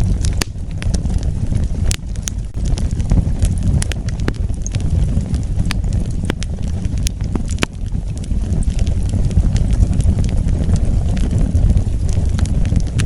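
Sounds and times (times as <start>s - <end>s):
burning wood crackling and popping: 0.0s - 13.0s
low rumble of flames: 0.0s - 13.0s.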